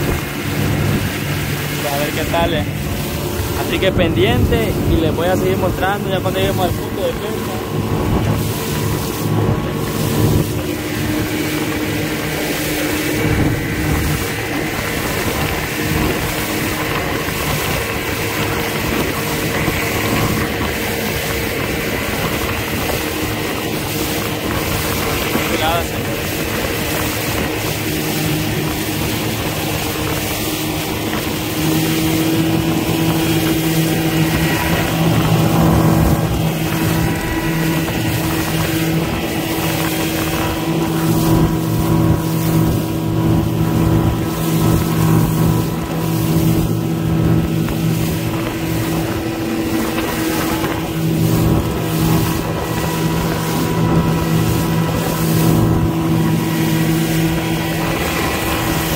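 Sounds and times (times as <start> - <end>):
boat motor humming: 0.0 - 58.9
rush of wind and water: 0.0 - 58.9.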